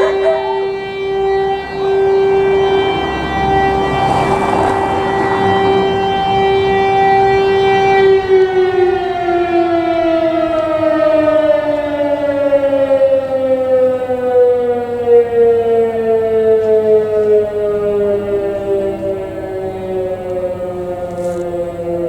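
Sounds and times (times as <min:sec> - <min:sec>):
alarm siren wailing: 0:00.0 - 0:22.0.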